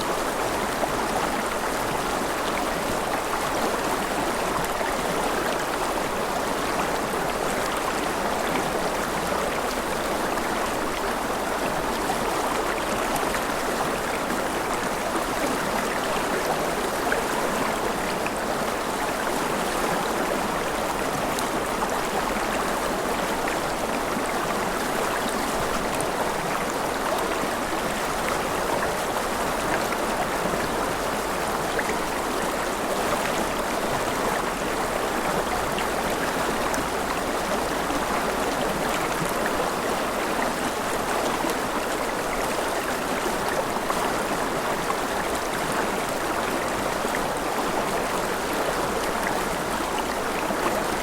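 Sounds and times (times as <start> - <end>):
river flowing over rocks: 0.0 - 51.0.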